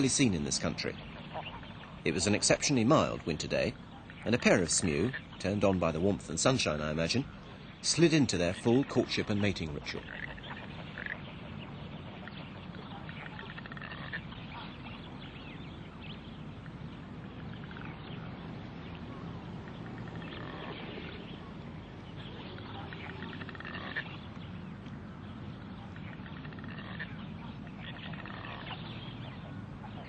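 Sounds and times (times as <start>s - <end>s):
ducks calling: 0.0s - 30.0s.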